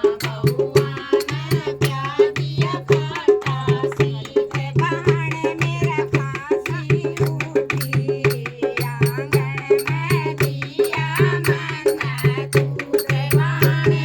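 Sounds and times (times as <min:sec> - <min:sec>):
hand drum beating: 0:00.0 - 0:14.0.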